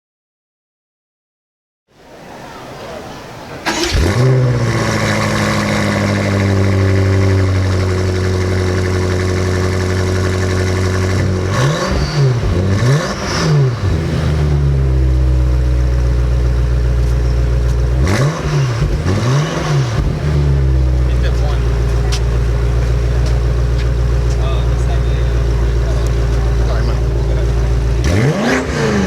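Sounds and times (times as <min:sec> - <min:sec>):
car engine idling and revving: 0:03.7 - 0:29.0.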